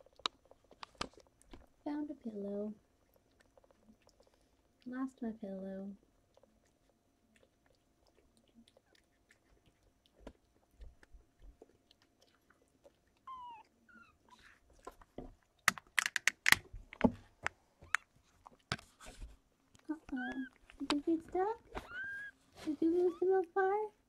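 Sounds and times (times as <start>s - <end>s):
kittens suckling wet clicks: 0.0s - 1.8s, 2.5s - 23.6s.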